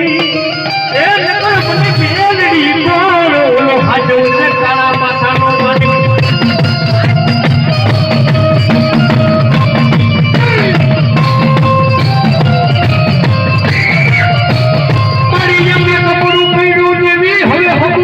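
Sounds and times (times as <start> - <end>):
held melody notes: 0.0 - 17.0
fast drum beat: 1.0 - 16.8.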